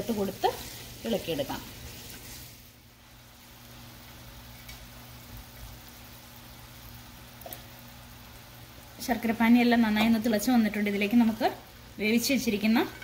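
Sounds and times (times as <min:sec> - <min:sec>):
syrup bubbling in a frying pan: 0:00.0 - 0:13.0.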